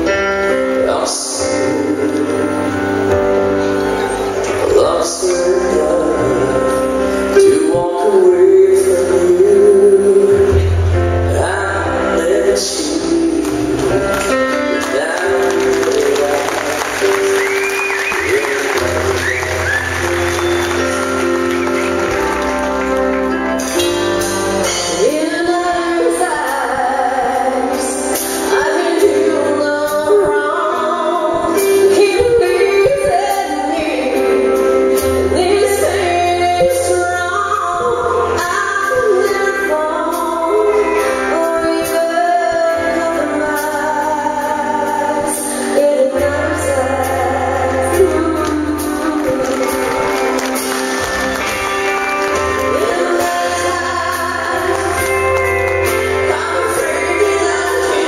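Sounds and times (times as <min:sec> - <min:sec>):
woman singing: 0:00.0 - 0:21.1, 0:23.9 - 0:58.0
bass line: 0:00.0 - 0:58.0.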